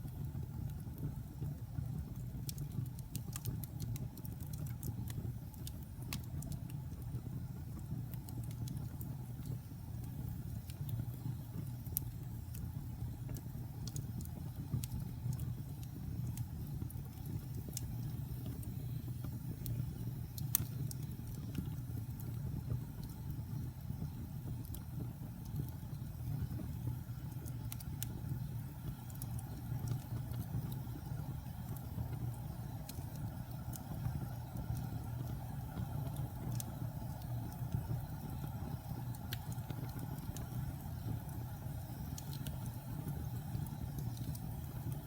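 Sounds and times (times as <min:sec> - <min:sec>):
wood fire burning: 0:00.0 - 0:45.0.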